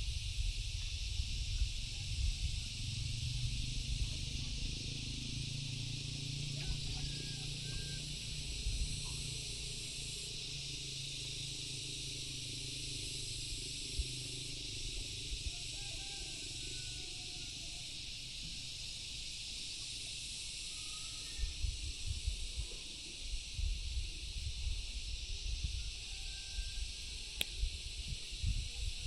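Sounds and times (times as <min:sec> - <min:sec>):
insect chorus hissing: 0:00.0 - 0:29.0.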